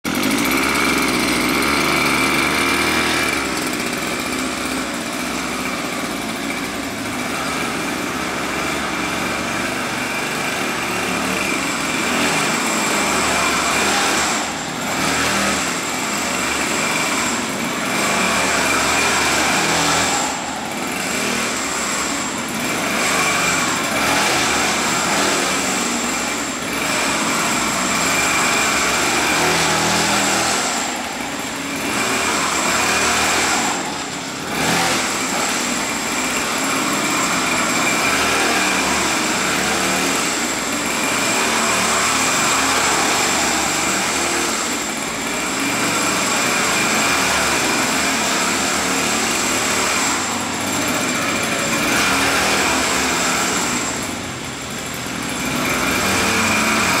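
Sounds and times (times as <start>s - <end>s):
small gasoline engine whining: 0.0s - 57.0s.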